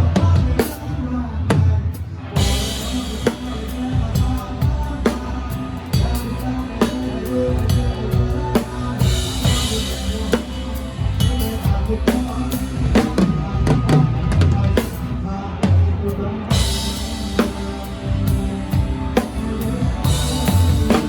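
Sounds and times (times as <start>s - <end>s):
band music: 0.0s - 21.0s
drum kit playing groove: 1.5s - 21.0s.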